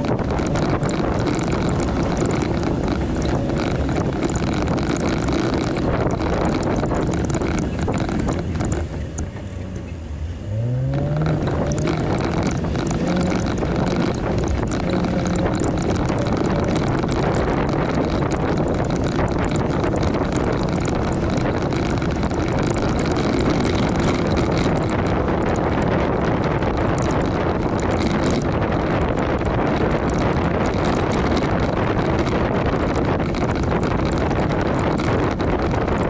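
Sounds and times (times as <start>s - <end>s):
car engine revving: 0.0s - 36.0s
clicks and rattles: 0.0s - 36.0s
tyres rumbling over rocky trail: 0.0s - 36.0s.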